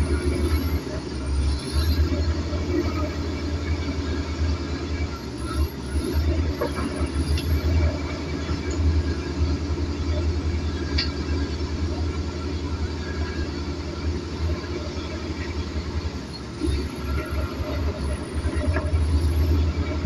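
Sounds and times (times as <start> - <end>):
heavy diesel engines rumbling: 0.0 - 20.0.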